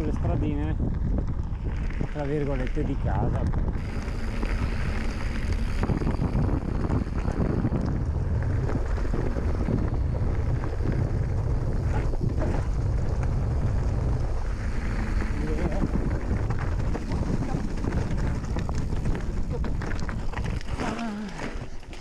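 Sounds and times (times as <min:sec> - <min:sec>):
bike rattling over rough ground: 0:00.0 - 0:22.0
tyre noise on gravel: 0:00.0 - 0:22.0
wind buffeting microphone: 0:00.0 - 0:22.0.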